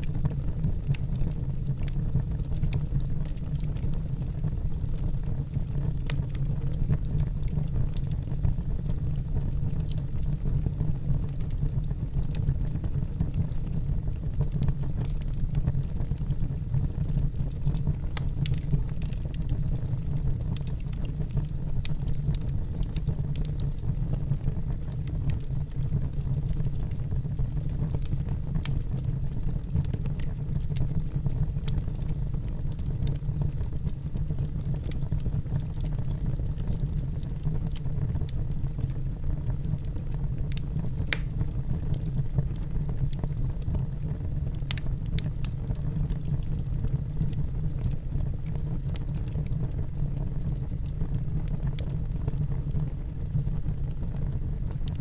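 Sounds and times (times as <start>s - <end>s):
campfire crackling and popping: 0.0s - 55.0s
low fire rumble: 0.0s - 55.0s.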